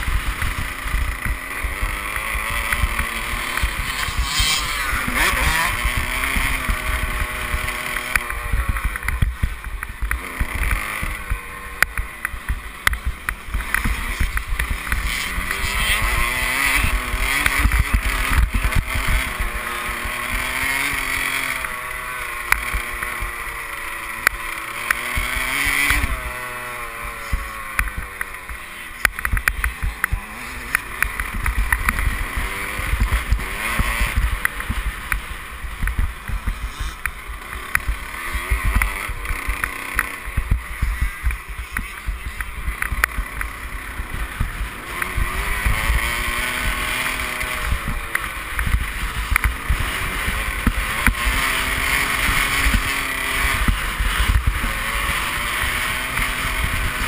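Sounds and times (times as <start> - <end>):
motorbike engine revving: 0.0 - 57.0.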